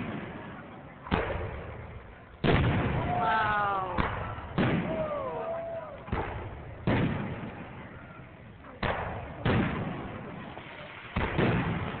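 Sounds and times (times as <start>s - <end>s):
fireworks booming with echo: 0.0s - 12.0s.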